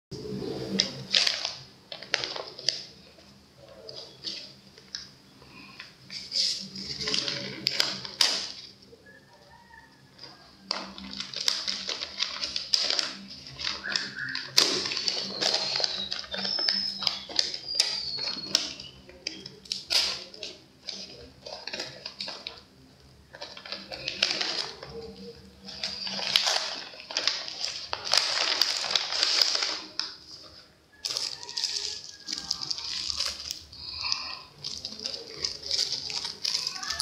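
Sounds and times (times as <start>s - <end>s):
paper rustling and crinkling: 0.5s - 8.8s, 9.5s - 22.7s, 23.3s - 37.0s.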